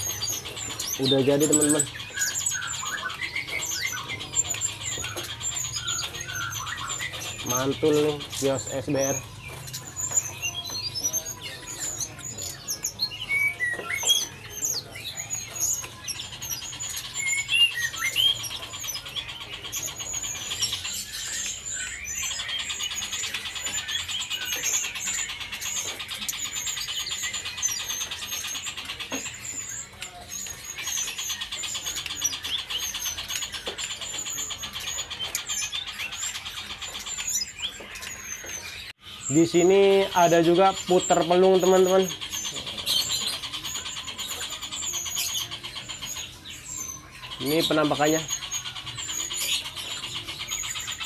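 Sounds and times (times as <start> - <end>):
rapid trilling birdsong: 0.0 - 51.0
songbirds chirping: 0.0 - 51.0.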